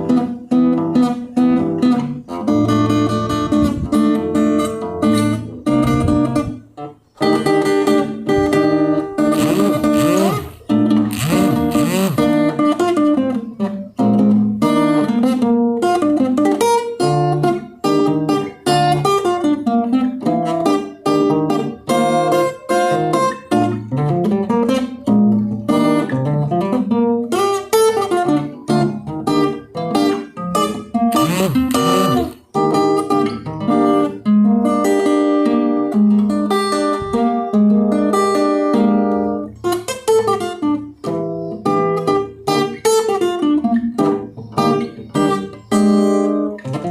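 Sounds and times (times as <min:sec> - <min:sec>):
acoustic guitar playing: 0:00.0 - 0:46.9.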